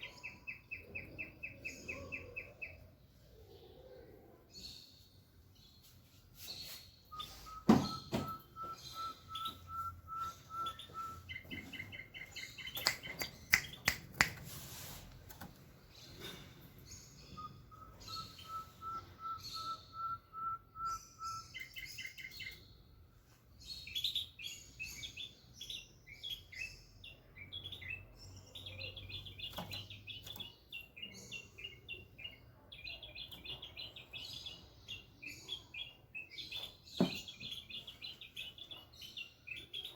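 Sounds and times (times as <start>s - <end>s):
bulbul singing: 0.0s - 2.9s, 6.6s - 14.4s, 16.0s - 22.9s, 23.6s - 39.9s.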